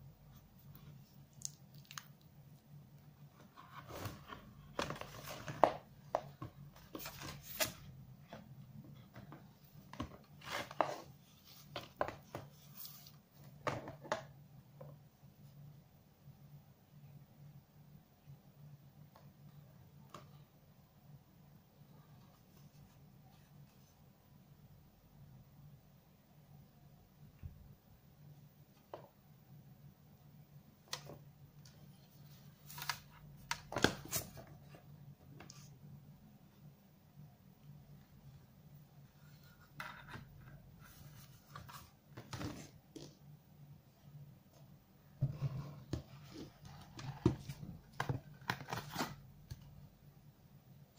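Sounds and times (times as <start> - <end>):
faint low hum: 0.0 - 50.9.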